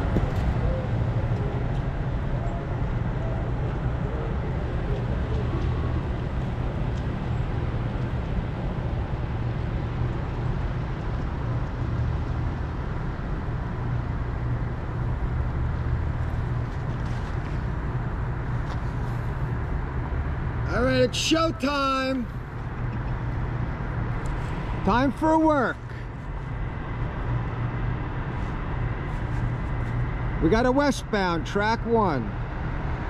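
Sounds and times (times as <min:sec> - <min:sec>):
cars driving past: 0:00.0 - 0:31.5
steady low rumble: 0:00.0 - 0:33.0.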